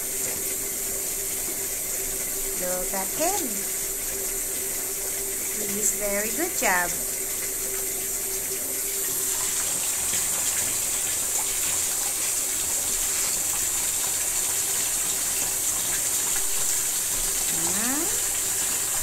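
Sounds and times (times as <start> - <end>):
tap water pouring: 0.0 - 19.0.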